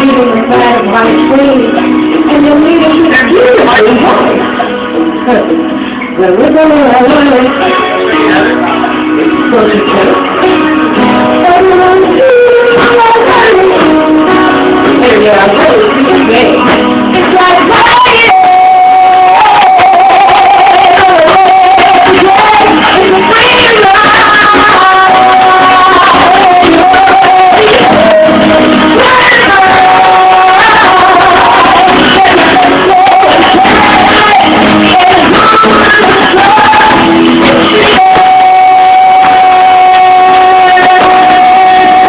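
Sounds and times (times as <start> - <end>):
music with singing: 0.0 - 42.0.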